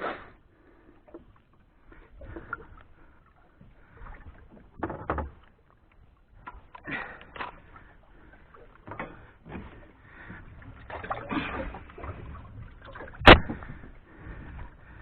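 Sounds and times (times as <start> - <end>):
light water sounds: 0.0 - 15.0.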